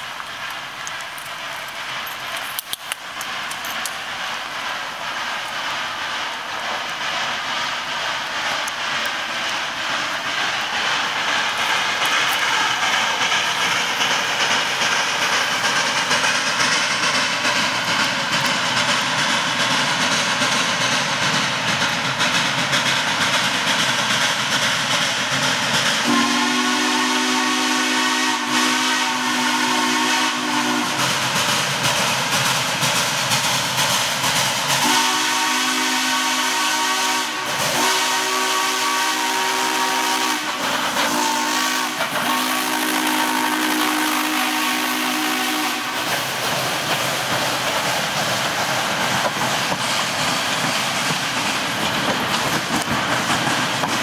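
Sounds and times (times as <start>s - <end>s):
steam locomotive exhaust rushing: 0.0s - 54.0s.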